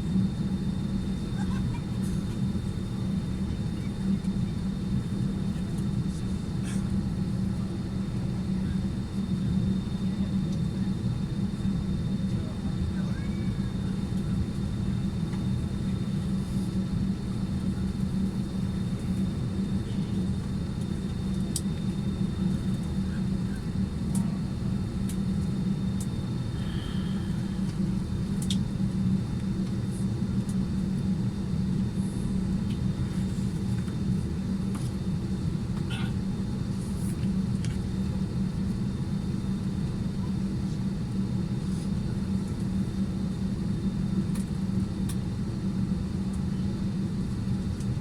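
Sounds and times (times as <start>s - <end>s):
cabin ventilation hum: 0.0s - 48.0s.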